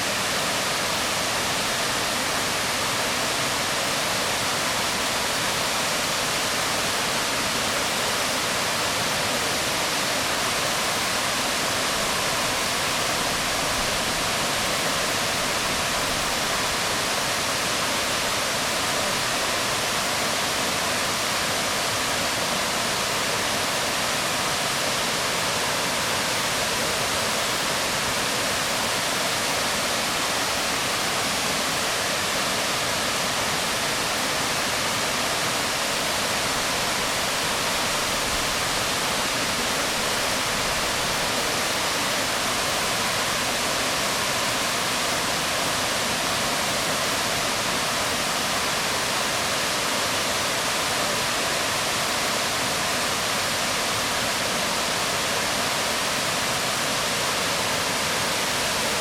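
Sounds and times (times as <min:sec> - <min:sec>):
waterfall rushing onto rocks: 0:00.0 - 0:59.0.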